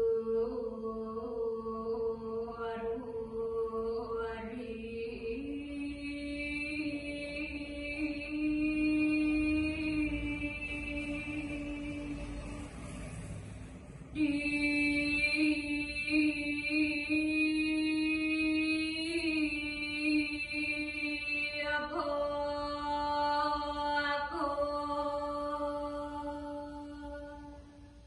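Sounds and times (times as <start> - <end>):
person chanting: 0.0 - 27.8.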